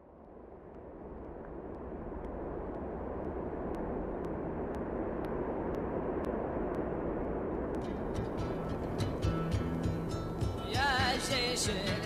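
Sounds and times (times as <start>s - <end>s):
steady rushing noise: 0.0s - 10.8s.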